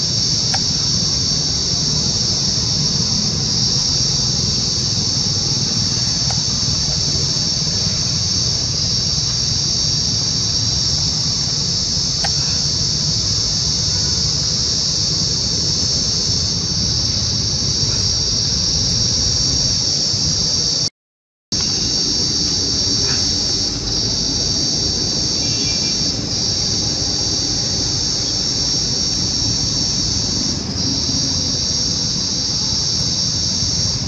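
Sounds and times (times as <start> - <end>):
insect chorus drone: 0.0 - 20.9, 21.5 - 34.0.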